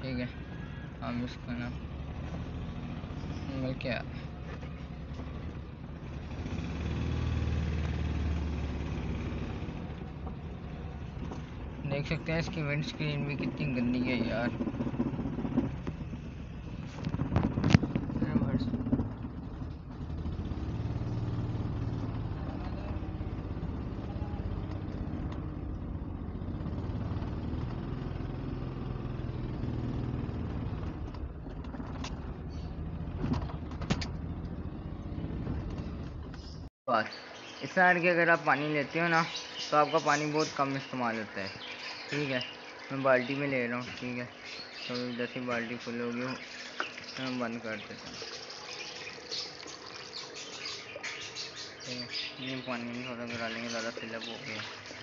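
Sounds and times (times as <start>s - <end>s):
small car engine reversing: 0.2s - 36.7s, 37.3s - 55.0s.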